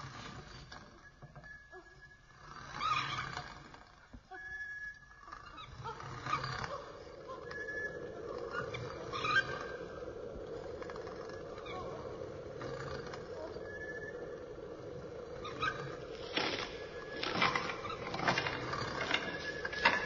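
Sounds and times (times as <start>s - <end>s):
short high squeaks: 0.0s - 20.0s.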